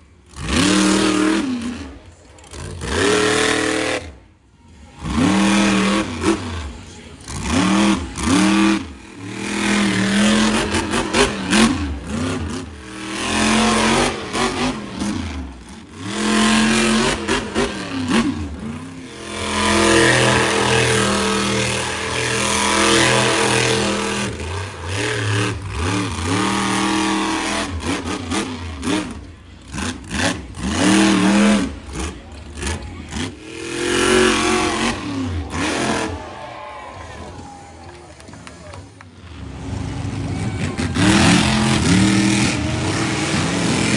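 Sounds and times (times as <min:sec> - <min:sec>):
truck engines revving: 0:00.0 - 0:43.9.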